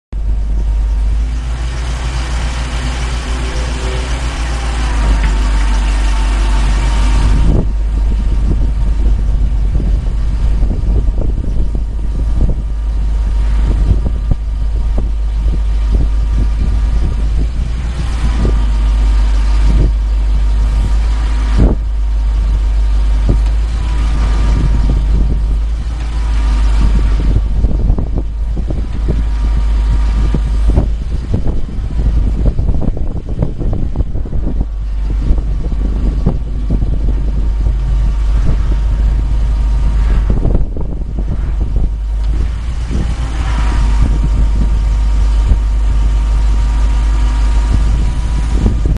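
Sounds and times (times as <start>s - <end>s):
truck engine running: 0.0s - 48.9s
thin hydraulic whine: 0.2s - 48.9s.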